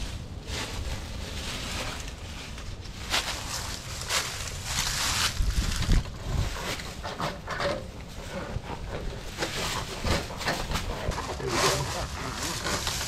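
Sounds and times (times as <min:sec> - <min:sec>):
drain cable scraping and rustling: 0:00.0 - 0:13.0.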